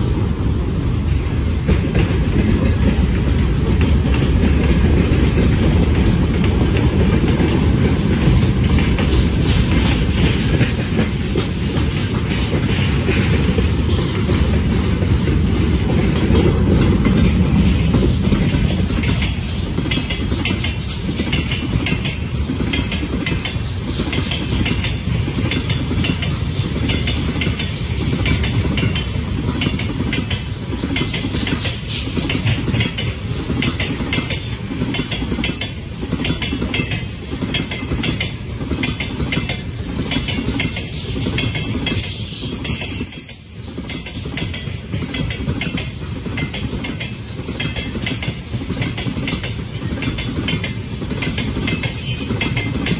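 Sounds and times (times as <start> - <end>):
freight train rumble: 0.0 - 52.9
wheels clacking over rail joints: 0.0 - 52.9.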